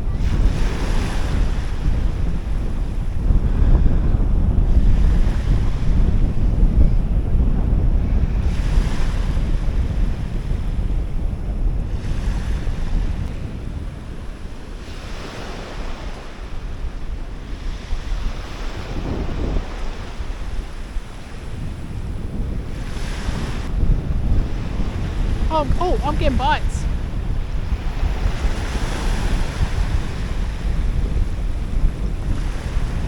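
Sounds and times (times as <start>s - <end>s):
waves washing in: 0.0s - 6.6s, 7.2s - 33.0s
wind buffeting microphone: 0.0s - 33.0s.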